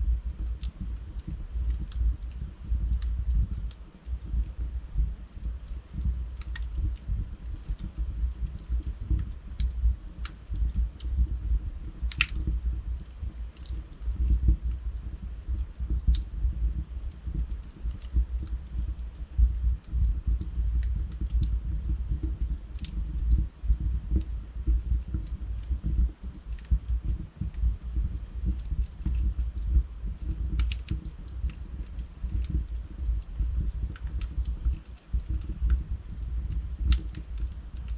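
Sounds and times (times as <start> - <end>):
fire rumbling in a fireplace: 0.0 - 37.9
logs crackling and popping: 0.0 - 37.9.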